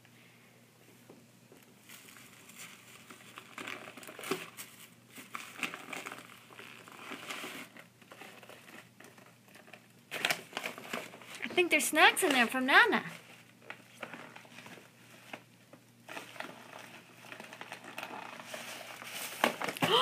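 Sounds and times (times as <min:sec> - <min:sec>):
tissue paper crinkling: 0:01.8 - 0:09.2, 0:10.1 - 0:20.0.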